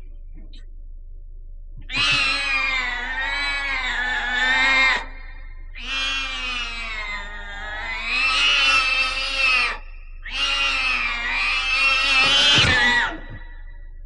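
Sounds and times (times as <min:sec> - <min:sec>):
steady low hum: 0:00.0 - 0:14.0
spooky wavering yowls: 0:01.9 - 0:13.5.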